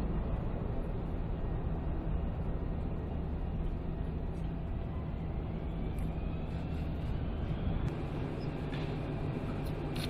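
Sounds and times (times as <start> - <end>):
machinery hum and rumble: 0.0 - 10.0.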